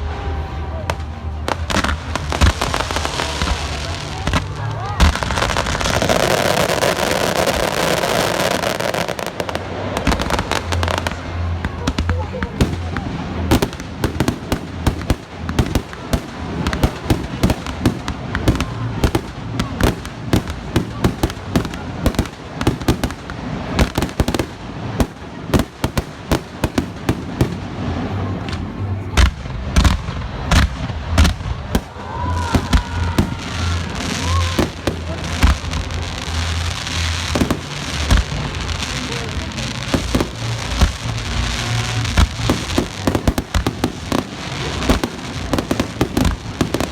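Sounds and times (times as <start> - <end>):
firework bursts and bangs: 0.0 - 46.9
firework crackling: 0.0 - 46.9.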